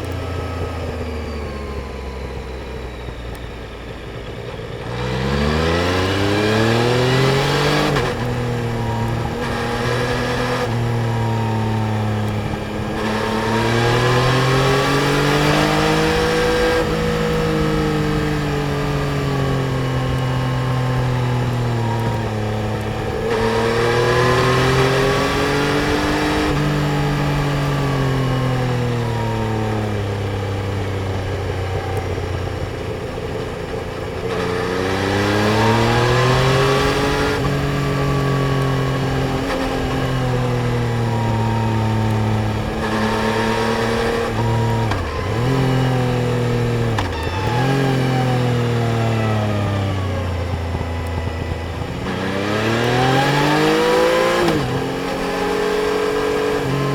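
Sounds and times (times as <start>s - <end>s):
motorcycle engine accelerating: 0.0s - 56.9s
wind and road noise: 0.0s - 56.9s.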